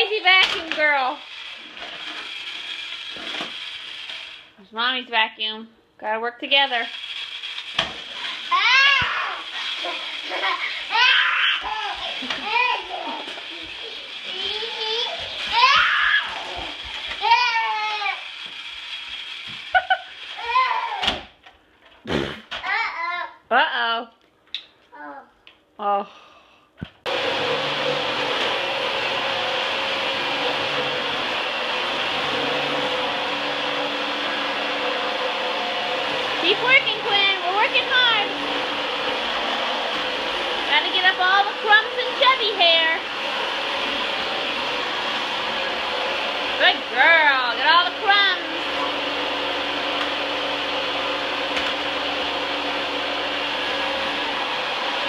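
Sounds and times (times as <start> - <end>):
vacuum cleaner running: 0.0 - 5.5, 6.4 - 21.3, 26.9 - 55.0.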